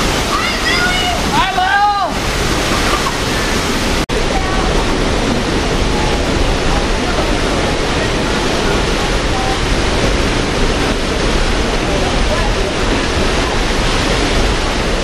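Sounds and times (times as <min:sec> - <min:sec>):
water rushing: 0:00.0 - 0:15.0
wind rushing: 0:00.0 - 0:15.0.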